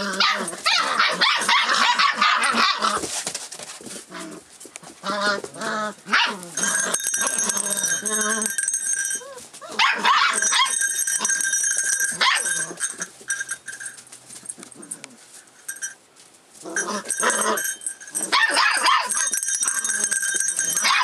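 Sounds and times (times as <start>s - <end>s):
puppies yipping and barking: 0.0s - 4.2s, 4.9s - 15.8s, 16.7s - 21.0s.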